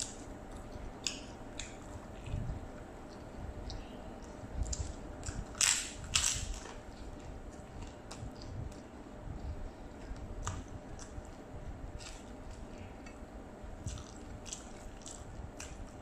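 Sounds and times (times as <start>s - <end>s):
cracker crunching: 0.0s - 9.0s, 9.9s - 13.2s, 13.8s - 16.0s
chewing: 0.0s - 13.2s, 13.8s - 16.0s.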